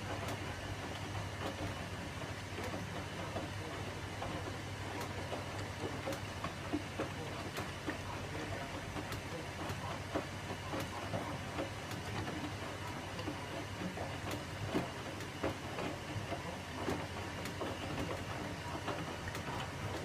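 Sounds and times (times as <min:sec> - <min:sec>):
washing machine hum: 0:00.0 - 0:20.0.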